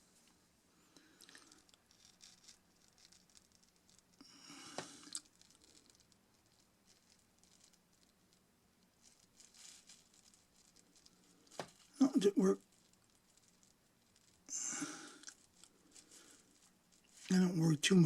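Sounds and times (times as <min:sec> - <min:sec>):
scraping rustle: 0:01.0 - 0:18.0.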